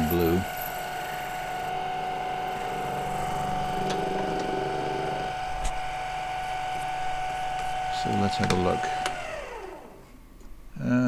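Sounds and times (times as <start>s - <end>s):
lathe whining: 0.0s - 10.4s
low hum: 0.0s - 10.7s.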